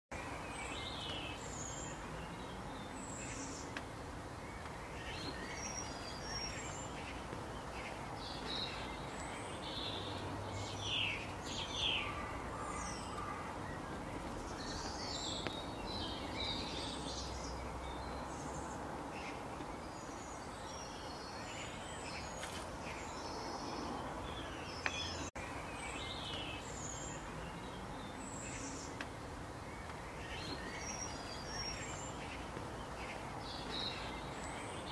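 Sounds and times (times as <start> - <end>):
outdoor background hiss: 0.1 - 34.9
small birds chirping: 0.1 - 34.9.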